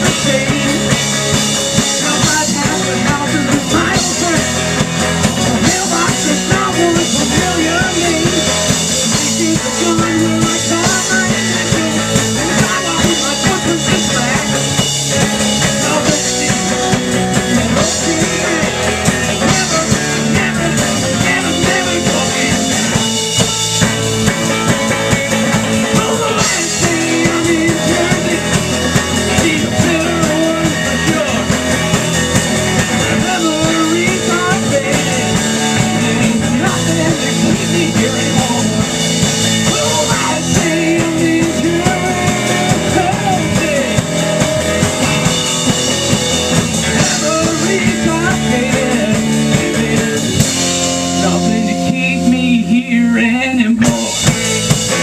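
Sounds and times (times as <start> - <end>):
man singing: 0.0 - 23.6, 24.2 - 45.4, 46.5 - 55.0
rock band playing: 0.0 - 55.0.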